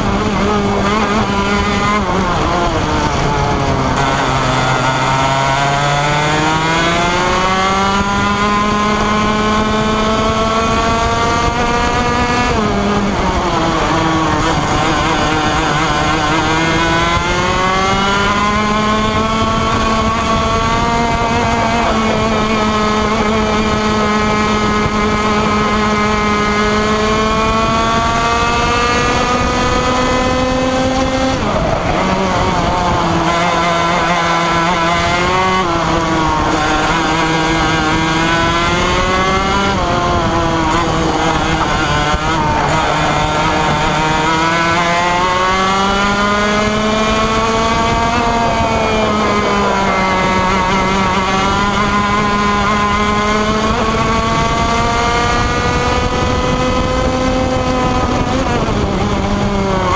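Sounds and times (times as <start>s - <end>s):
kart engine at high revs: 0.0s - 59.9s.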